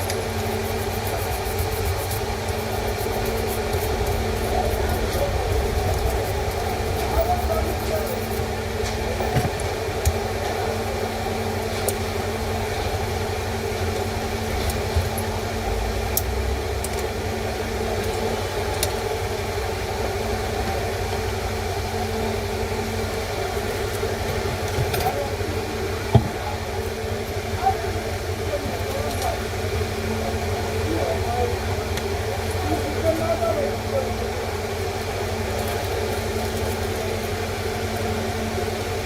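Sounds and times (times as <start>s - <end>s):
low mechanical hum and rumble: 0.0s - 39.0s.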